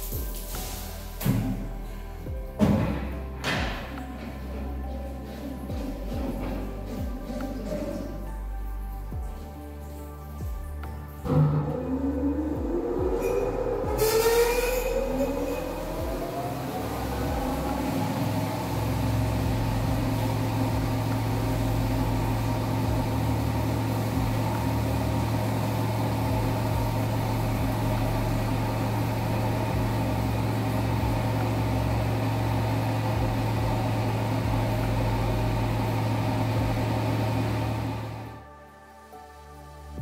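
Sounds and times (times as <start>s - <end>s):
spin-dryer motor hum and whine: 0.0s - 9.5s, 10.6s - 38.4s.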